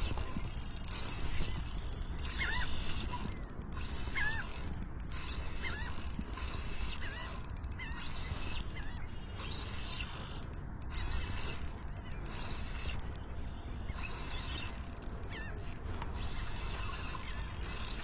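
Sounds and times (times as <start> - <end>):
fishing reel squeaking and whirring: 0.0 - 18.0.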